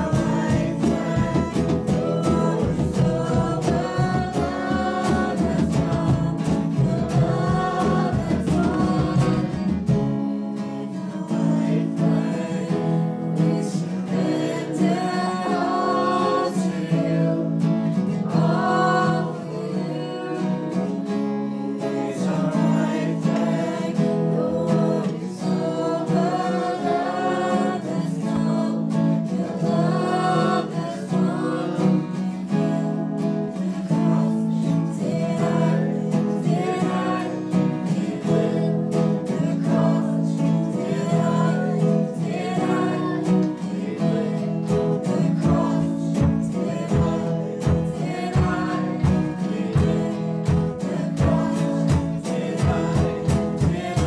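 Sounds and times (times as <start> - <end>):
congregation singing: 0.0 - 54.0
electric guitar: 0.0 - 54.0
strummed acoustic guitar: 0.0 - 54.0
woman singing: 0.0 - 54.0.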